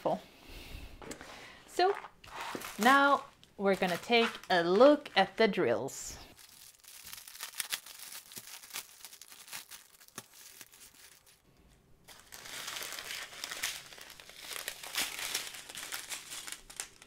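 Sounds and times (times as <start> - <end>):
plastic packaging crinkling: 1.8 - 5.4, 6.3 - 11.5, 12.1 - 17.0.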